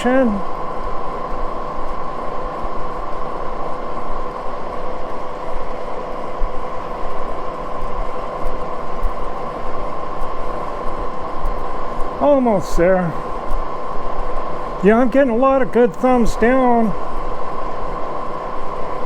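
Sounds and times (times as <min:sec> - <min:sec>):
machine whirring with high whine: 0:00.0 - 0:19.0.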